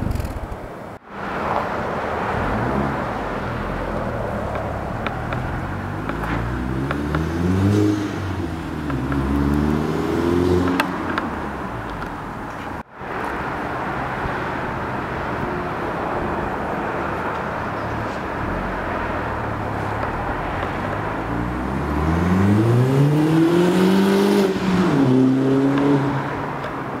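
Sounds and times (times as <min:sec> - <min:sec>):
car engine and exhaust revving: 0:00.0 - 0:27.0
road and wind noise: 0:00.0 - 0:27.0.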